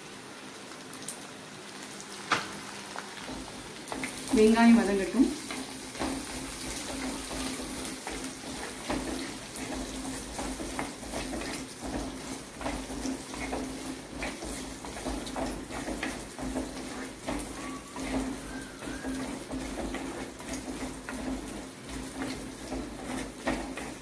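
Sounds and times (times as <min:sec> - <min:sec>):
onions sizzling in oil: 0:00.0 - 0:24.0
wooden spatula scraping a pot: 0:03.9 - 0:24.0.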